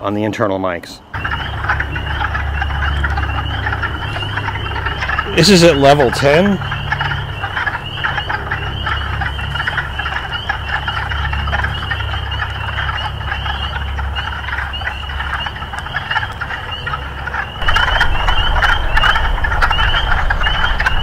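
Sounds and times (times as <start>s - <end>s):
steady low rumble: 1.0s - 21.0s
frogs calling in chorus: 1.1s - 21.0s.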